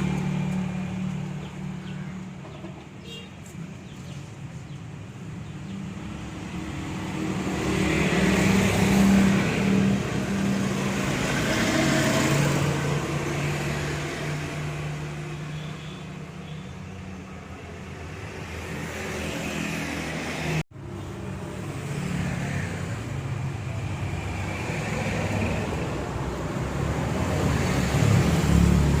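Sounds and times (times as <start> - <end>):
vehicle engines passing: 0.0 - 29.0.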